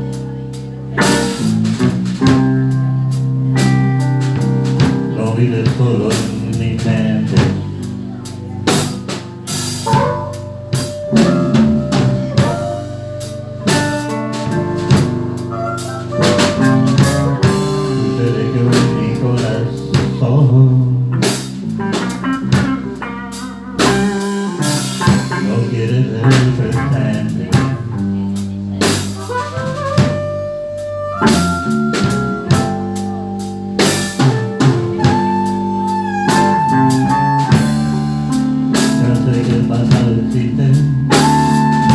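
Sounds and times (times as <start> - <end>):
bass: 0.0 - 41.9
blues band playing: 0.0 - 41.9
drum kit beat: 0.0 - 41.9
sliding guitar notes: 0.0 - 41.9.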